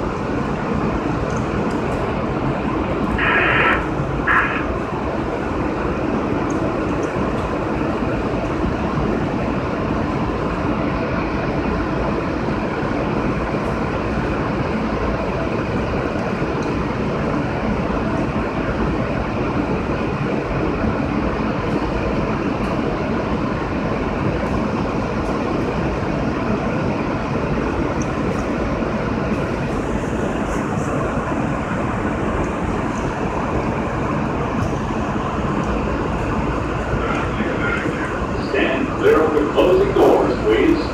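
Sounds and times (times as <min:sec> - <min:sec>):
subway car equipment noise: 0:00.0 - 0:40.9.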